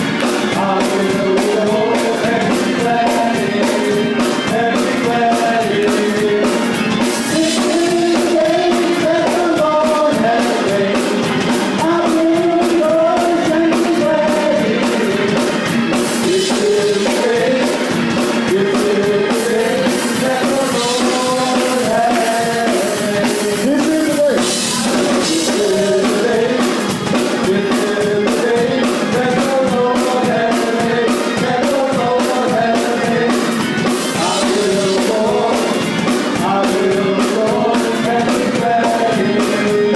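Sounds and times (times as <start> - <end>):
band with drums and cymbals: 0.0 - 39.9
voices singing gospel: 0.0 - 39.9.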